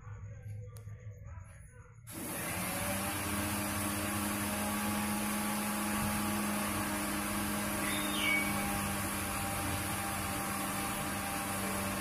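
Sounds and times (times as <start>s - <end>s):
machine whirring with low hum: 2.0s - 12.0s.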